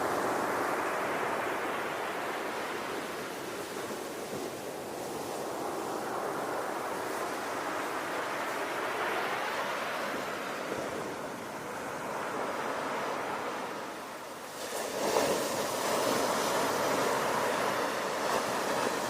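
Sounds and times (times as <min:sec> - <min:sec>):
ocean waves washing: 0:00.0 - 0:19.0.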